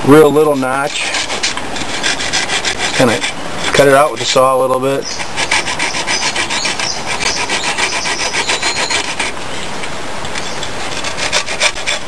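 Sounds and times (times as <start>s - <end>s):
hand saw cutting wood: 0.4s - 4.4s, 5.0s - 9.4s, 10.4s - 12.0s.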